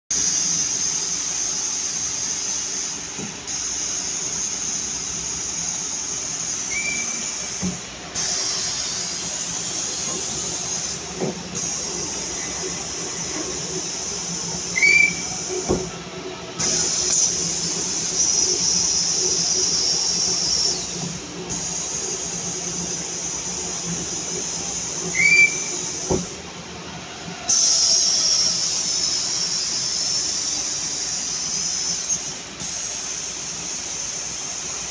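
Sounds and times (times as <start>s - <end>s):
high hiss: 0.2s - 15.9s, 16.6s - 26.4s, 27.4s - 34.9s.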